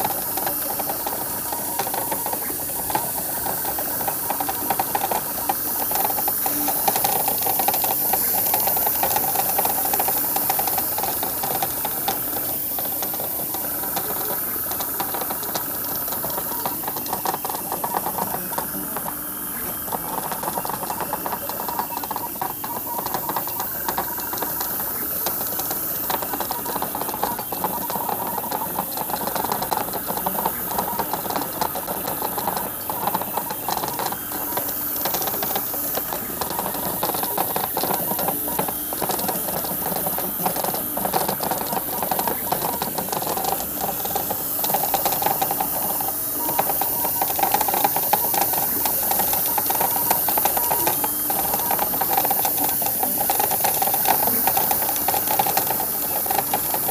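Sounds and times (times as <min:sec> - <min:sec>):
airbrush hissing: 0:00.0 - 0:56.9
stepper motors whirring and ticking: 0:00.0 - 0:56.9.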